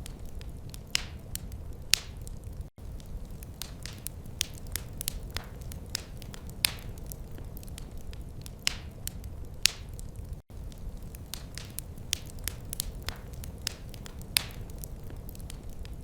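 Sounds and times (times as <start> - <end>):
wood fire crackling: 0.0 - 16.0
flames rumbling: 0.2 - 16.0.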